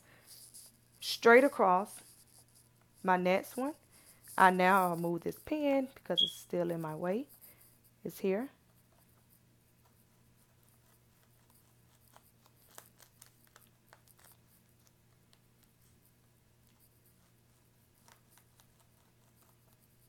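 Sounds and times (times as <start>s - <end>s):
marker scratching: 0.0s - 20.0s.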